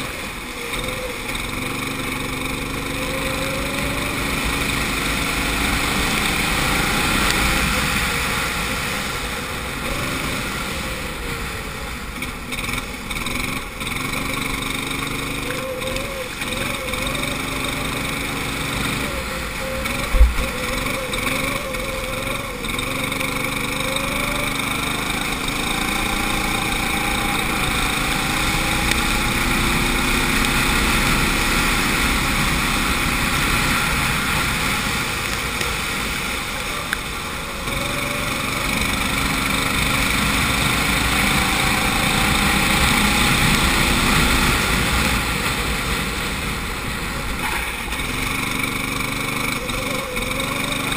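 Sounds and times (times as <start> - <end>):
go-kart engine accelerating: 0.0 - 50.9.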